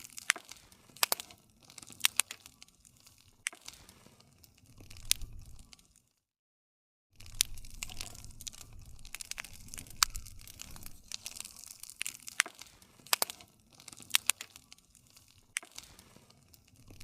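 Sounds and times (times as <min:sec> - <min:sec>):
campfire crackling: 0:00.0 - 0:06.2, 0:07.2 - 0:17.0.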